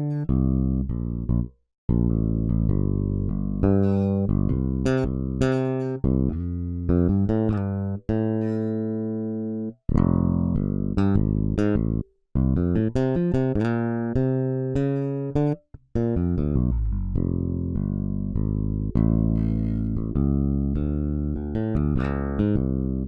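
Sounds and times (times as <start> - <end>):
electric bass notes: 0.0 - 23.0.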